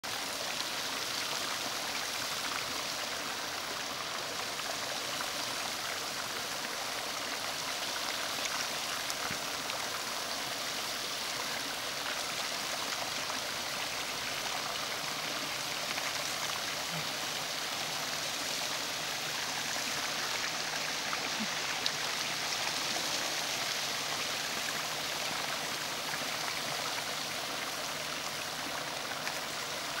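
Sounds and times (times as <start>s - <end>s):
water rushing over terraces: 0.0s - 30.0s.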